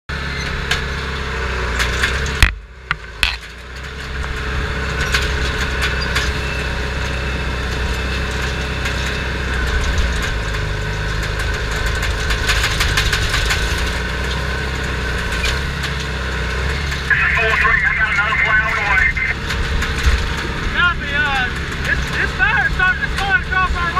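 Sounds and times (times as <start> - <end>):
diesel engine running: 0.1 - 23.9
rattles and clicks: 1.7 - 17.1, 19.2 - 23.9.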